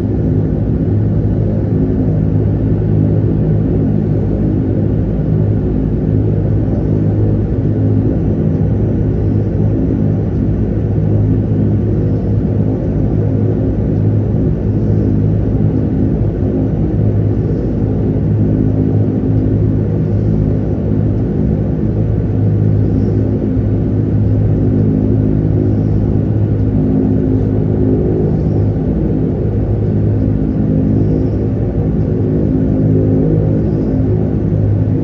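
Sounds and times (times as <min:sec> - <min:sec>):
turboprop engines droning: 0:00.0 - 0:35.0.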